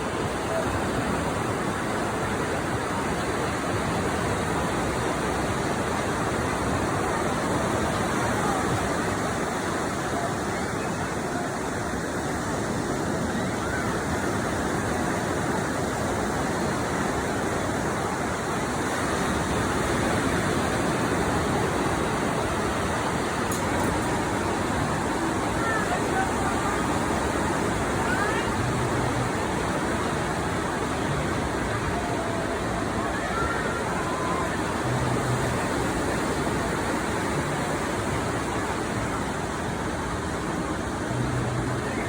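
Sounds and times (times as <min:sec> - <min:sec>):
waves breaking on beach: 0:00.0 - 0:42.0.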